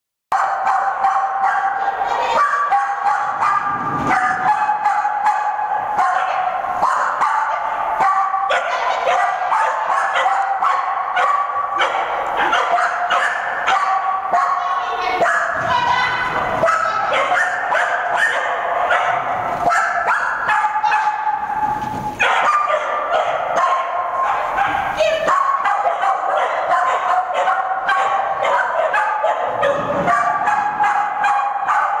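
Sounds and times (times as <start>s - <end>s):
dog yapping: 0.3s - 32.0s.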